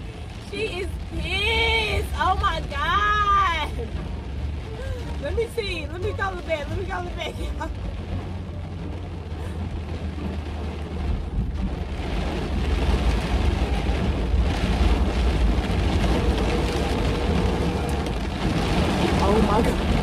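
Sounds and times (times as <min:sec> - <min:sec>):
heavy rain on car roof: 0:00.0 - 0:20.0
low rumble: 0:00.0 - 0:20.0.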